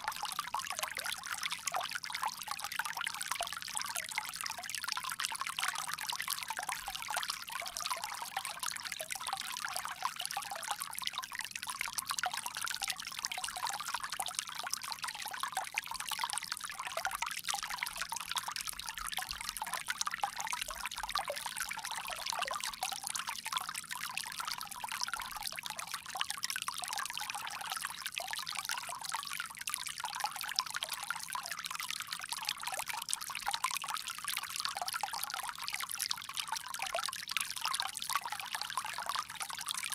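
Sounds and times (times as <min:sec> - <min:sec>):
water trickling from bamboo spout: 0:00.0 - 0:39.9.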